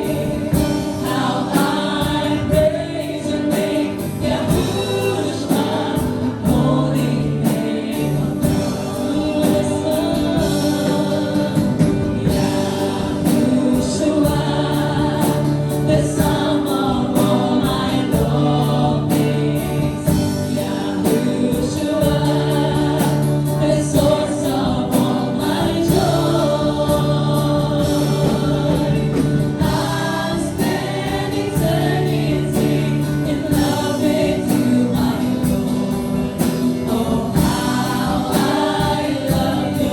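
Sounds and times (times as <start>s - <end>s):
group singing praise song: 0.0s - 39.9s.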